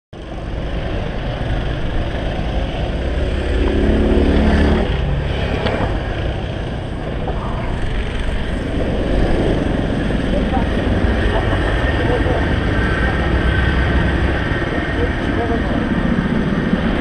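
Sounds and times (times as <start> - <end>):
go-kart engines running: 0.2 - 17.0.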